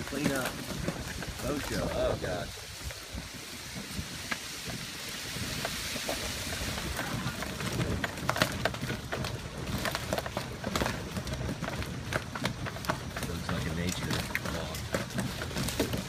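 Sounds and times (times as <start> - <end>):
golf cart rumbling: 0.0 - 16.0.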